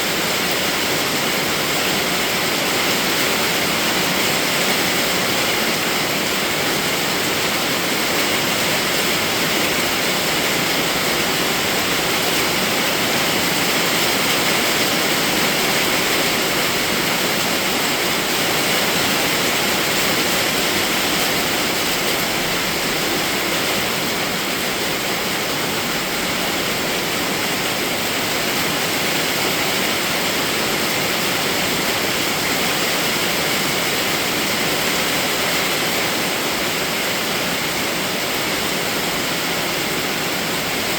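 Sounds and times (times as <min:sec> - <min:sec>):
steady rainfall hiss: 0:00.0 - 0:40.9.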